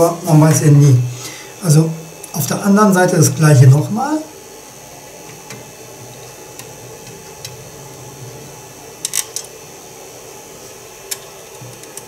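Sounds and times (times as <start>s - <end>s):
printer humming: 0.0s - 12.0s.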